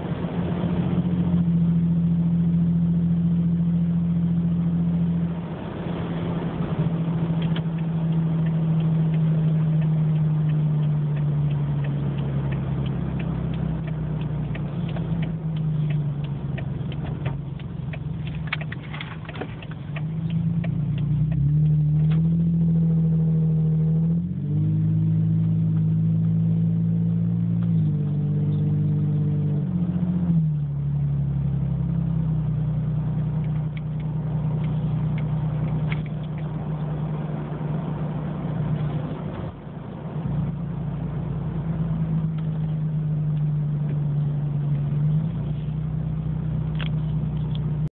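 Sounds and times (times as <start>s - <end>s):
car engine exhaust while driving: 0.0s - 47.9s.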